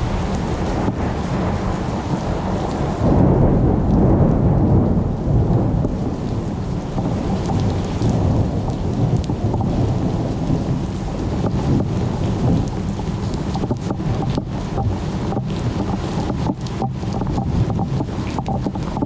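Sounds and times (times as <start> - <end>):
raindrops ticking: 0.0 - 19.0
steady rain: 0.0 - 19.0
thunder rumbling: 0.0 - 19.0.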